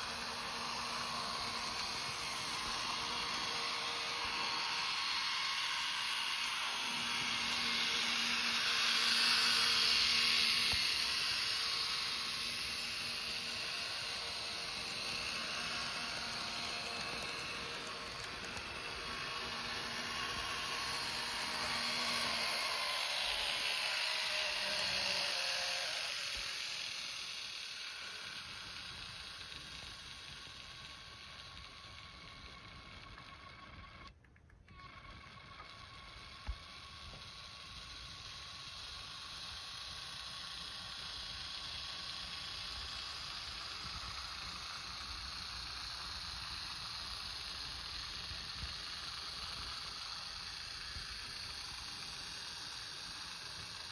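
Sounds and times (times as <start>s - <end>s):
model train motor whirring: 0.0s - 53.9s.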